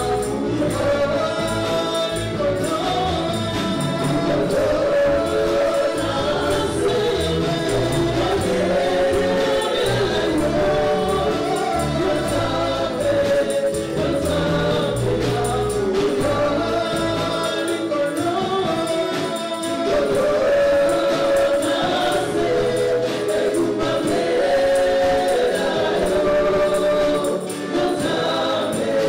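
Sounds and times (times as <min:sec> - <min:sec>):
bass line: 0:00.0 - 0:29.0
gospel choir singing: 0:00.0 - 0:29.0
percussion hits: 0:00.0 - 0:29.0.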